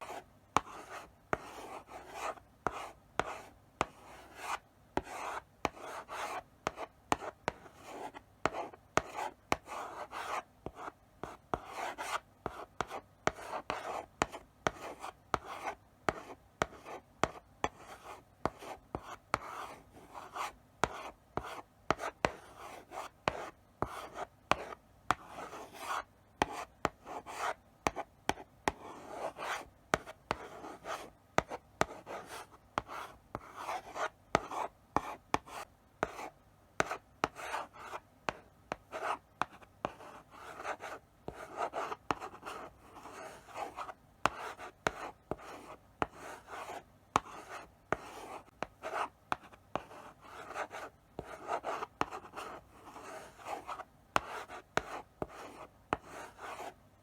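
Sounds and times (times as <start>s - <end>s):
chalk scratching on blackboard: 0.0s - 56.8s
chalk tapping on board: 0.1s - 17.8s, 23.3s - 56.8s.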